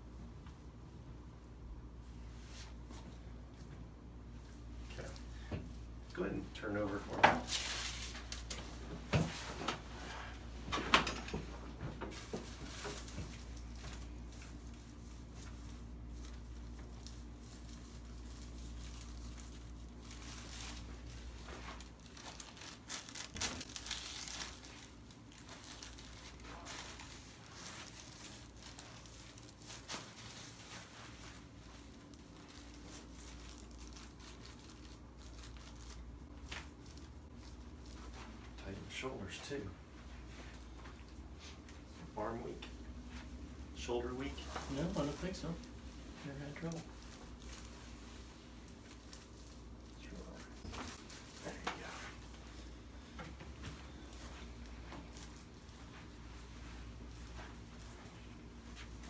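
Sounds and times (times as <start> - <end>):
low steady hum: 0.0 - 59.0
rustling and crinkling on padded table: 1.9 - 59.0.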